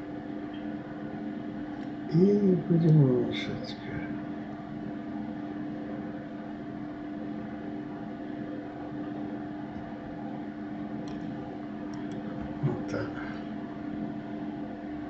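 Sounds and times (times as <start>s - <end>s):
computer cooling fans whirring: 0.0s - 15.0s
low-pitched hum: 0.0s - 15.0s.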